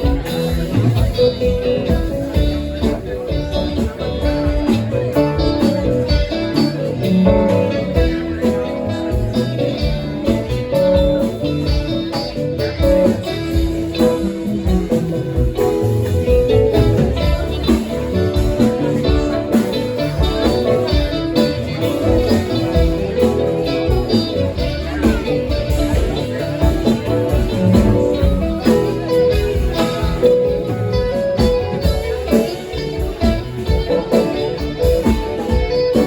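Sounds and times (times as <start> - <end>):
band playing guitar instrumental: 0.0 - 36.0.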